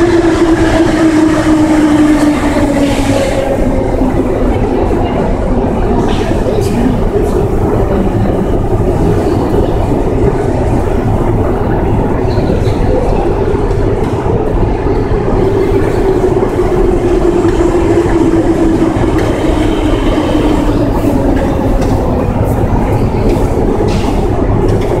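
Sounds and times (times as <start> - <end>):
escalator rumbling and clattering: 0.0 - 25.0.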